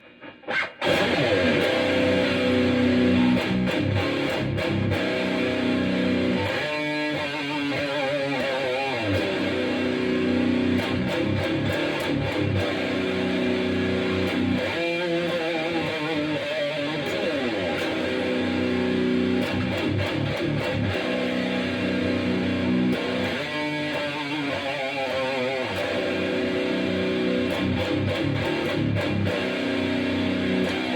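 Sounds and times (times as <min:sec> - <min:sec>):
electric guitar riff: 0:00.0 - 0:30.9.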